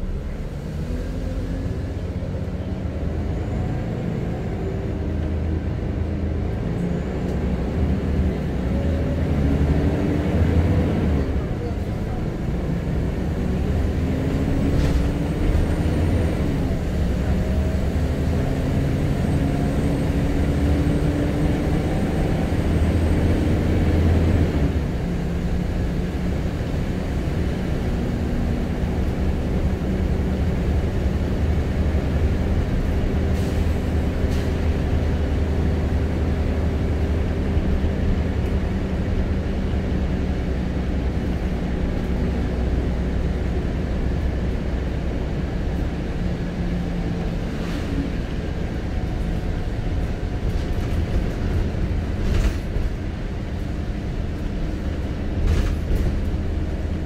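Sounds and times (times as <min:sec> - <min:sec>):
bus engine accelerating: 0:00.0 - 0:57.0.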